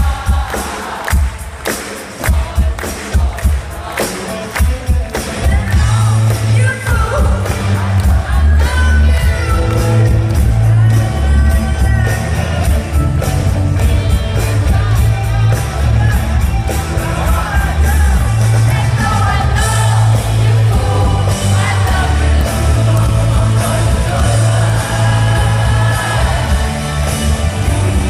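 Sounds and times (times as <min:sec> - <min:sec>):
lead singer: 0:00.0 - 0:28.0
live pop-rock band: 0:00.0 - 0:28.0.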